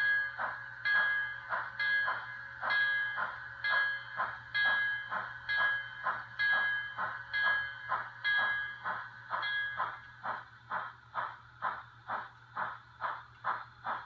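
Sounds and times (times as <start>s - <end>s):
model steam locomotive chuffing: 0.0s - 14.0s.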